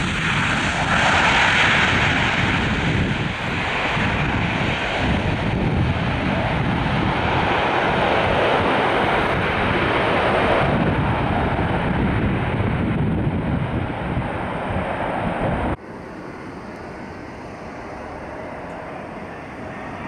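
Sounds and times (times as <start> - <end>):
turboprop engines roaring: 0.0 - 20.0
steady engine hum: 1.8 - 20.0.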